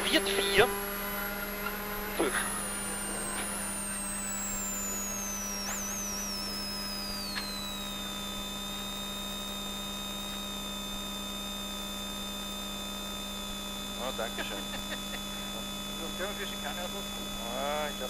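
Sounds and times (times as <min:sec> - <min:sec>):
steady electrical hum: 0:00.0 - 0:18.0
thin high whine: 0:00.0 - 0:18.0.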